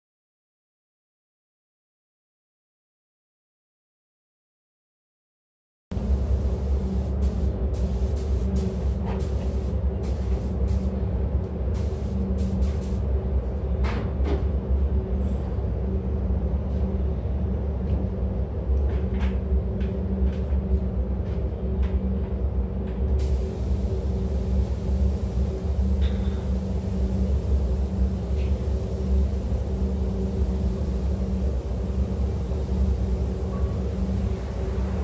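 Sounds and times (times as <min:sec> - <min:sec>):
ventilation fans humming: 0:05.9 - 0:35.0.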